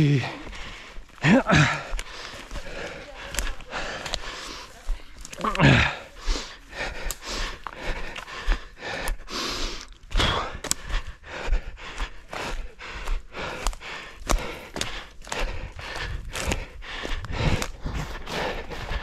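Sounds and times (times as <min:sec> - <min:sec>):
runner breathing hard: 0:00.0 - 0:19.0
running footsteps on forest ground: 0:00.0 - 0:19.0.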